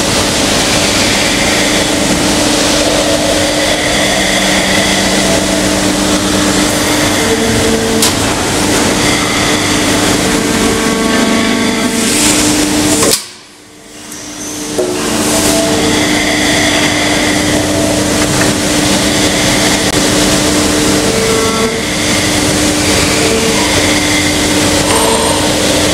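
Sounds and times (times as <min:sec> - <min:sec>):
hydraulic pump drone: 0:00.0 - 0:25.9.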